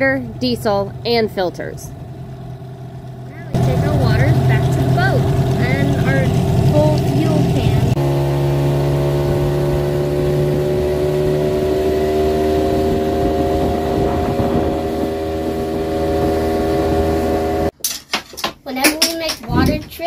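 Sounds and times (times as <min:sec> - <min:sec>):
outboard motor running: 0:00.0 - 0:17.7.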